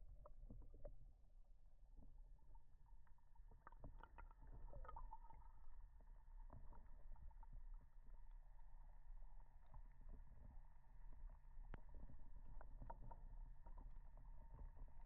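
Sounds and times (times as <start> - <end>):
faint underwater rumble: 0.0 - 15.0
small underwater clicks: 0.0 - 15.0.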